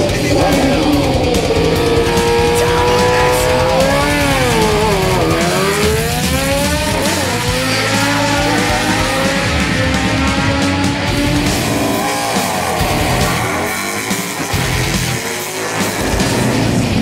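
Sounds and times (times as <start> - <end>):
motorcycle engine revving: 0.0 - 17.0
rock music: 0.0 - 17.0.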